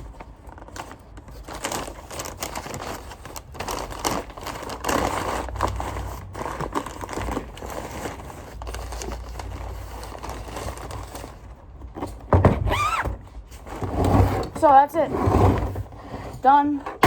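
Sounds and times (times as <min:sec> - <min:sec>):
vacuum parts rustling and clicking: 0:00.0 - 0:17.0.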